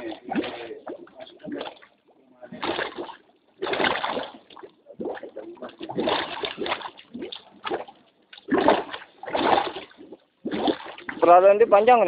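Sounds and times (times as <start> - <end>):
mud bubbling and splattering: 0.0 - 12.0.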